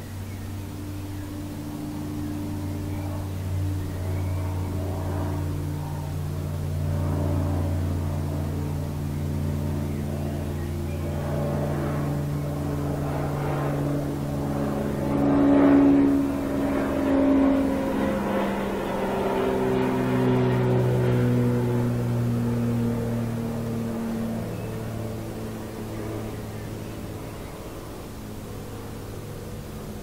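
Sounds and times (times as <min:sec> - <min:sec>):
propeller airplane droning overhead: 0:00.0 - 0:30.0.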